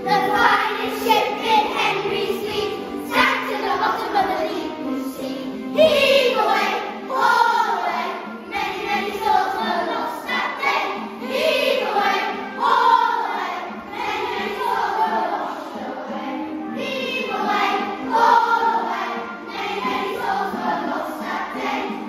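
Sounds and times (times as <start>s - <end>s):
children singing together: 0.0s - 22.0s.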